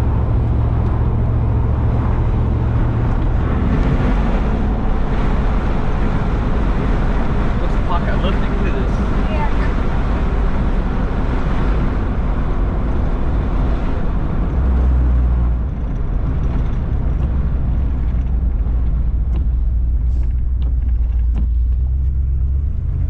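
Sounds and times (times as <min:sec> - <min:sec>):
vehicle rumble inside cabin: 0:00.0 - 0:23.0.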